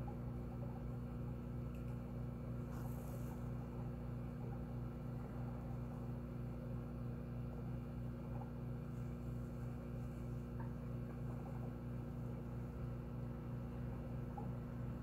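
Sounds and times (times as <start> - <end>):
low hum with faint pulse: 0.0 - 15.0.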